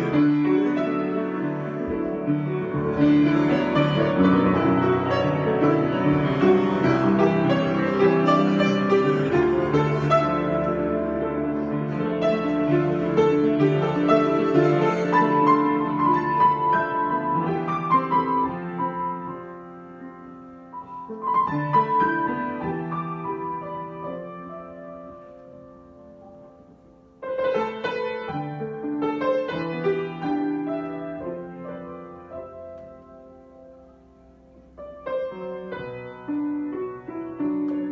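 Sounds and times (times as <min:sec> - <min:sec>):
solo piano: 0:00.0 - 0:37.9.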